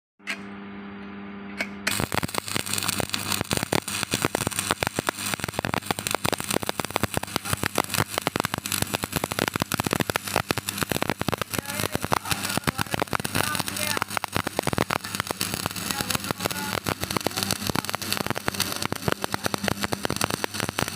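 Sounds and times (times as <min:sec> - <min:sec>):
electrical hum: 0:00.2 - 0:20.9
welding arc crackling: 0:01.6 - 0:20.9.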